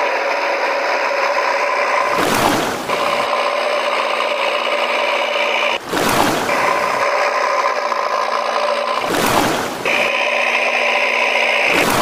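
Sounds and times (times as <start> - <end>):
electric motor and gears whirring: 0.0 - 12.0.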